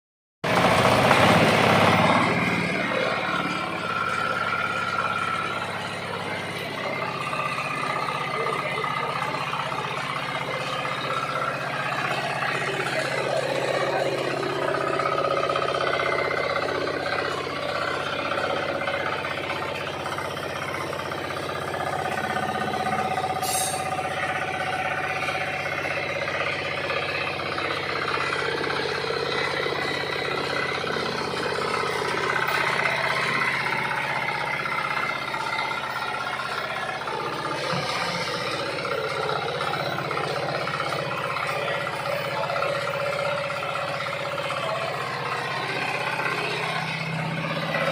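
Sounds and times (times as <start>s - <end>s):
harvester engine running: 0.4s - 47.9s
machinery noise: 0.5s - 47.9s.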